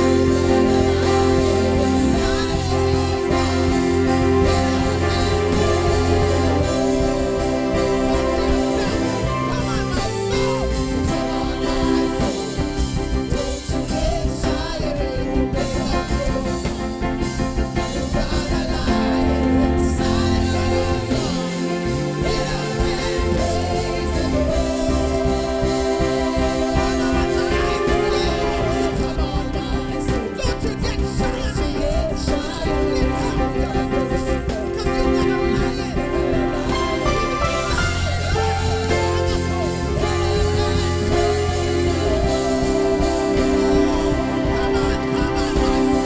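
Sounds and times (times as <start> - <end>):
gospel band playing: 0.0 - 46.0
person singing: 0.0 - 46.0.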